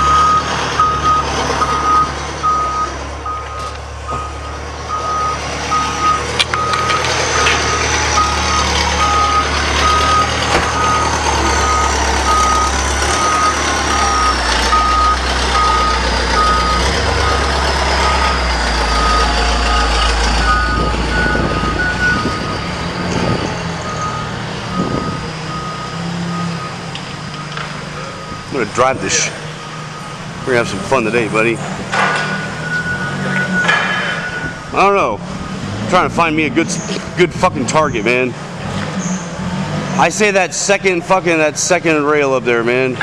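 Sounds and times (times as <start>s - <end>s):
reversing alarm beeping: 0.0s - 36.2s
vehicle engine running low: 0.0s - 41.2s.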